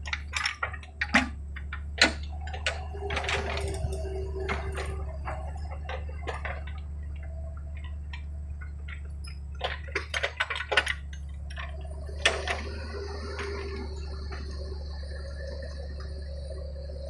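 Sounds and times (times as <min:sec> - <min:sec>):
metallic clicks and clanks: 0:00.0 - 0:16.9
excavator engine drone: 0:00.0 - 0:17.0.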